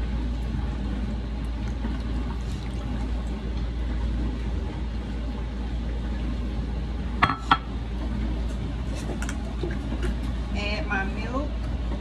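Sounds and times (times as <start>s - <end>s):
dishwasher running: 0.0s - 12.0s.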